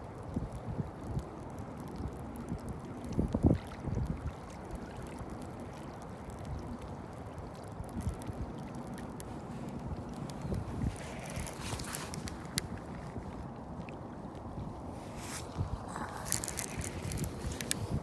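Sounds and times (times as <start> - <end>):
wind buffeting microphone: 0.0 - 5.5, 6.1 - 18.0
water lapping against boat hull: 0.0 - 18.0.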